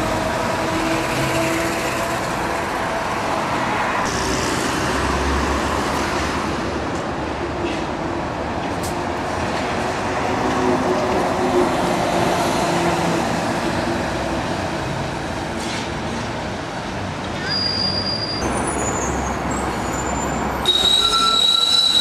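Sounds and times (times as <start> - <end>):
street traffic: 0.0 - 22.0
trolleybus hum: 0.0 - 22.0.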